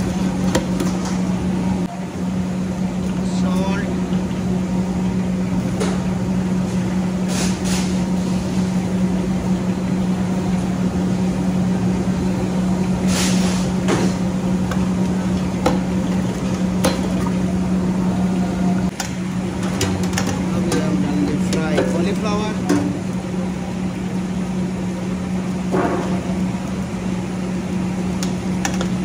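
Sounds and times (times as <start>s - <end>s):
kitchen machinery hum: 0.0s - 29.0s.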